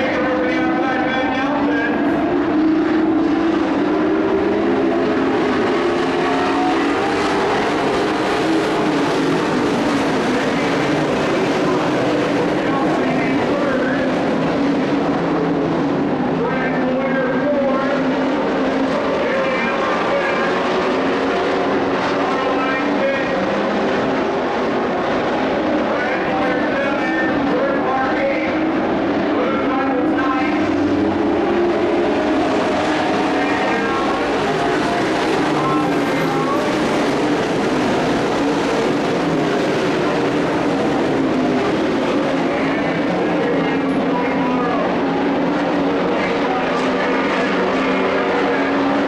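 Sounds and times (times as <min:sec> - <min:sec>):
race truck engines: 0:00.0 - 0:49.0.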